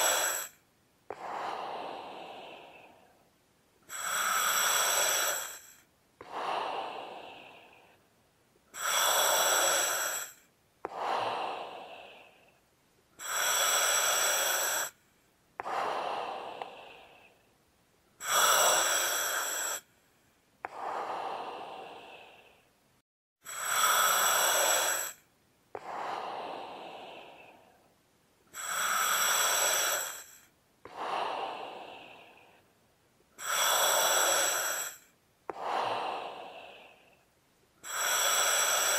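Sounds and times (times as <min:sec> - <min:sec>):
heavy breathing: 0:00.0 - 0:38.9.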